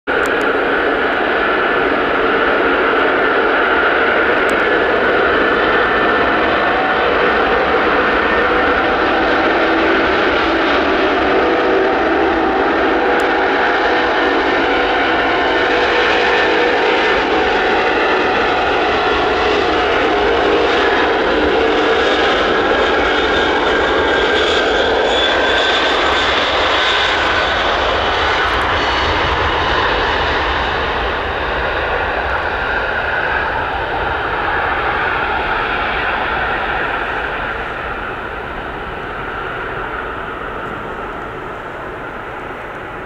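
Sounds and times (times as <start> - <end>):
jet engines roaring: 0.1 - 43.0.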